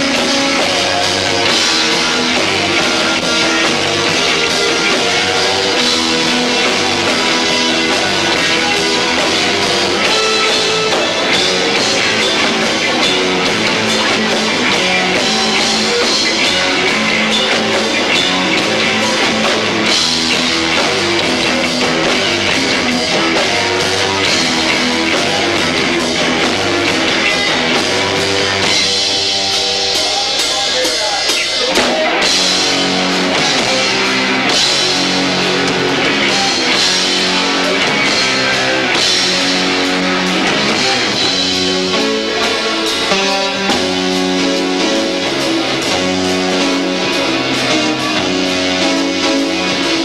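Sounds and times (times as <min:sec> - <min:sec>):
bass guitar: 0:00.0 - 0:50.0
distorted electric guitar: 0:00.0 - 0:50.0
fast dense drums: 0:00.0 - 0:50.0.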